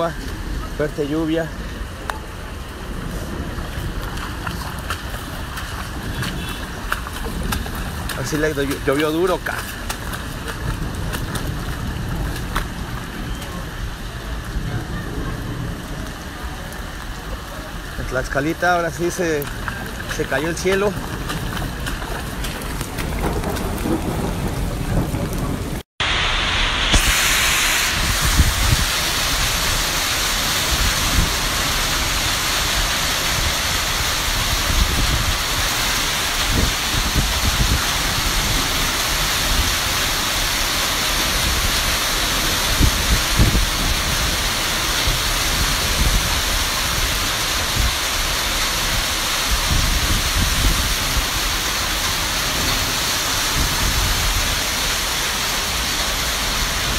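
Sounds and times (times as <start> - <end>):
torrential rain hissing: 0.0 - 56.9.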